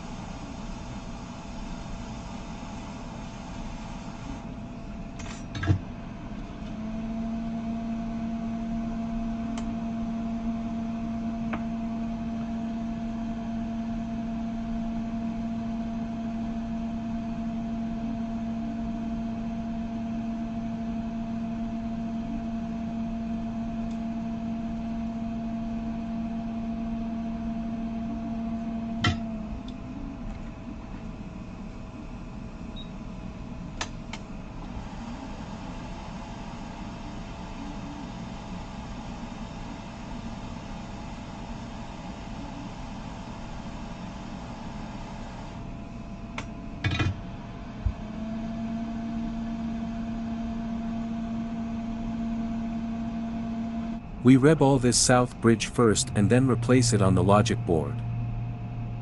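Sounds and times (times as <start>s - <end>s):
bench machine electrical hum: 0.0s - 59.0s.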